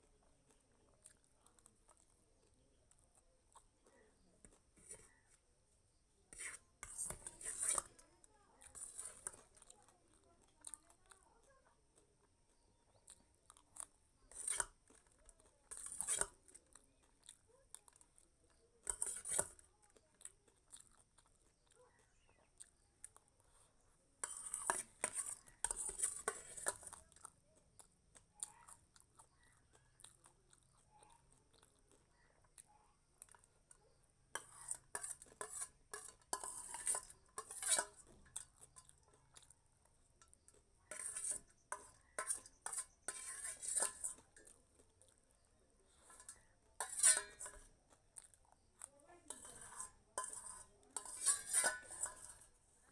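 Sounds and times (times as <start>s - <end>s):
clatter and scraping against a plate: 0.0s - 52.9s.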